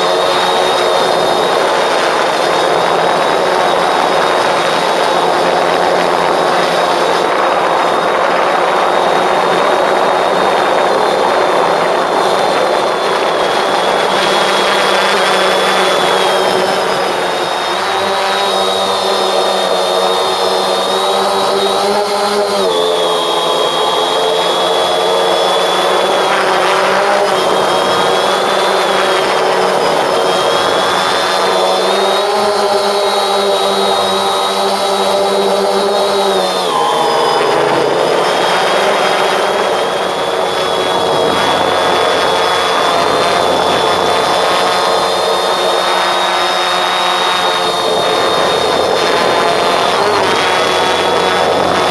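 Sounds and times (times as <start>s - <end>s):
drone propellers buzzing: 0.0s - 51.9s.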